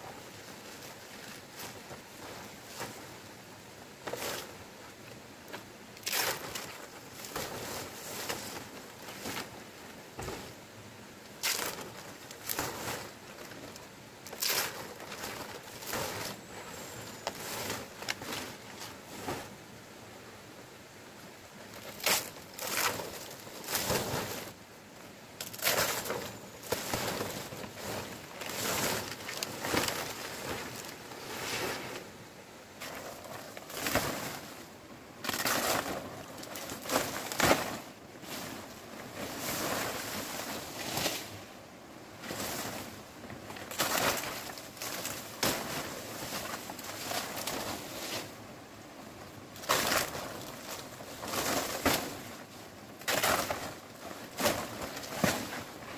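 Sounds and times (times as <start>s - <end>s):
palm leaves rustling: 0.0s - 55.9s.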